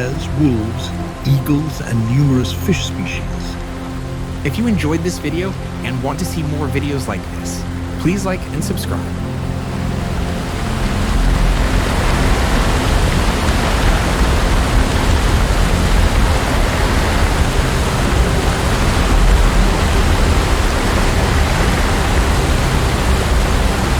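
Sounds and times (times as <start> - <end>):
fast-flowing river water rushing: 0.0 - 23.9.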